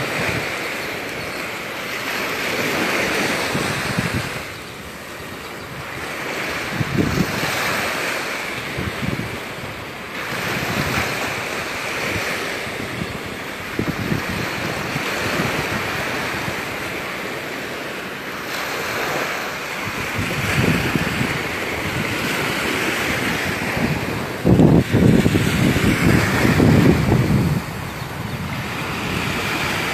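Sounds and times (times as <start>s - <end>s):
surf washing onto beach: 0.0s - 29.9s
wind gusting against microphone: 0.0s - 29.9s.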